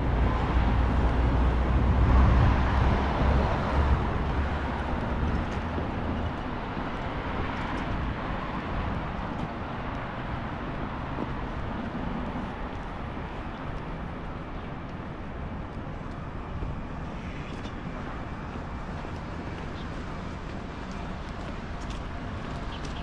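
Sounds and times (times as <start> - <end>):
passing vehicles: 0.0 - 23.0.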